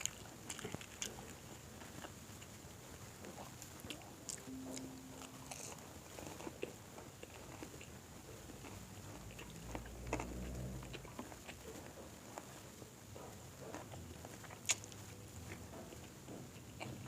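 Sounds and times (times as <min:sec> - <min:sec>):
chewing crispy fried chicken: 0:00.0 - 0:04.5, 0:05.5 - 0:17.0.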